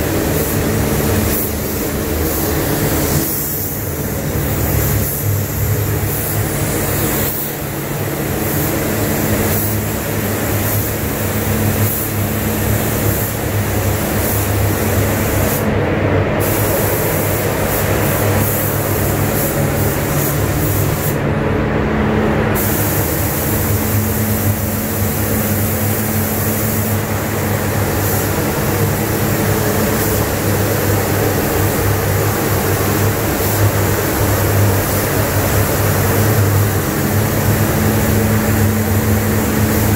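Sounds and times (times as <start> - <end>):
ventilation fans rushing air: 0.0 - 39.9.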